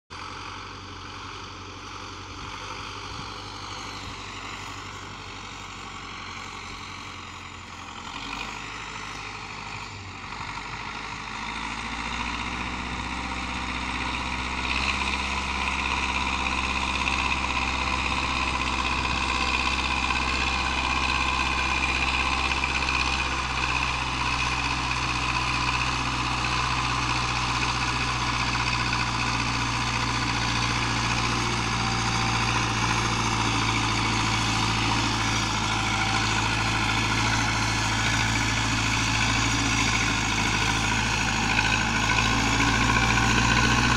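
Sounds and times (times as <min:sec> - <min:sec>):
tractor diesel engine under load: 0:00.1 - 0:43.9.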